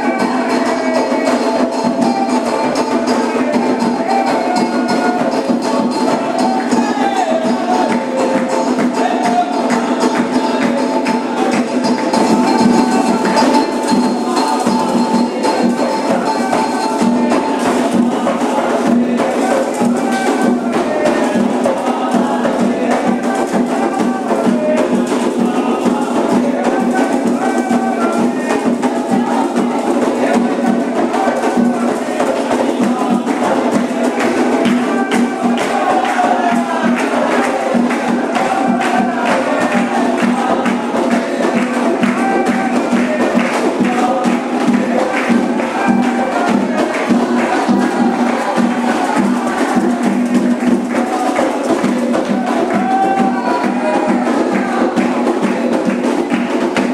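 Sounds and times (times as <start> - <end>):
clicking rattling percussion: 0.0 - 56.9
drums: 0.0 - 56.9
voices singing: 0.0 - 56.9.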